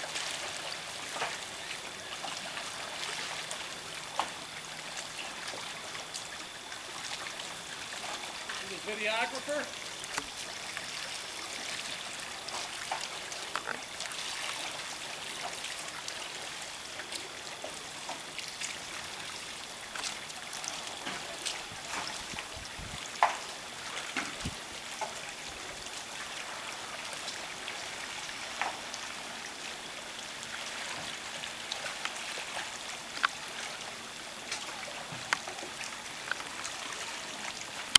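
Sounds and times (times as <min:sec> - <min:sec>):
paddle splashing water: 0:00.0 - 0:37.9
water trickling and dripping: 0:00.0 - 0:37.9.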